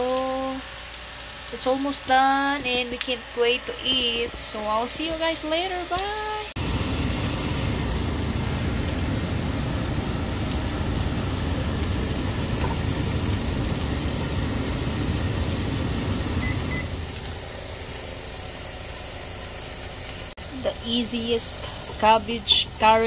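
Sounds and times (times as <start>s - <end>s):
low motor-like hum: 0.0s - 19.5s.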